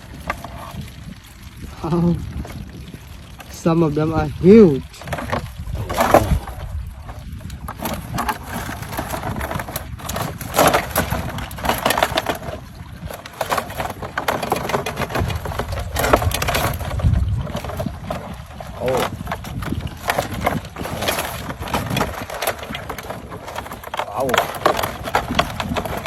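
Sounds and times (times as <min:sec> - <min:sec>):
hard objects clattering together: 0:04.8 - 0:26.0.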